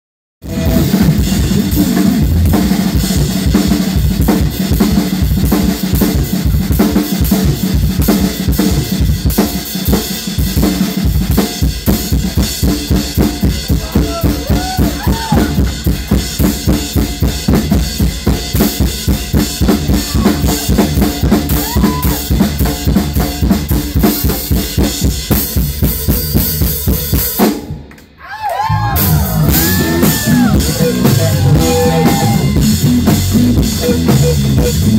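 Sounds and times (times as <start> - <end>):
band playing with guitar: 0.4 - 8.2, 11.7 - 27.3, 28.8 - 34.9
drum kit solo: 0.4 - 27.9, 28.6 - 34.9.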